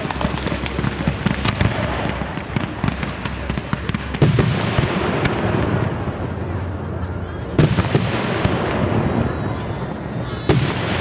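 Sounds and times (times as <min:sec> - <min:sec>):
fireworks popping and crackling: 0:00.0 - 0:11.0
loud firework burst: 0:00.0 - 0:11.0.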